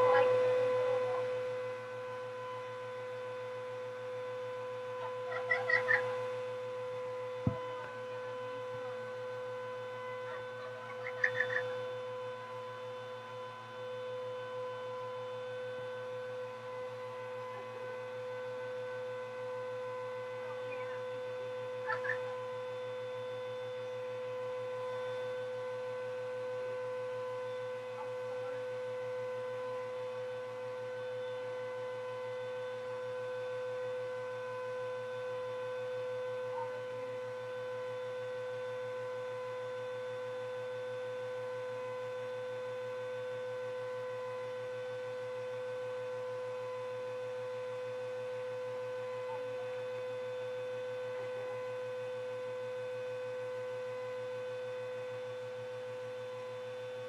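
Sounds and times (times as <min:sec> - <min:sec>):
low pulsing hum: 0:00.0 - 0:51.7
vacuum cleaner motor whine: 0:00.0 - 0:57.0.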